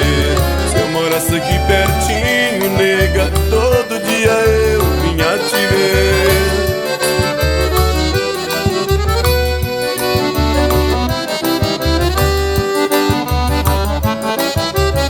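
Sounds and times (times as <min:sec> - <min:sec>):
accordion melody: 0:00.0 - 0:15.0
low drum beat: 0:00.0 - 0:15.0.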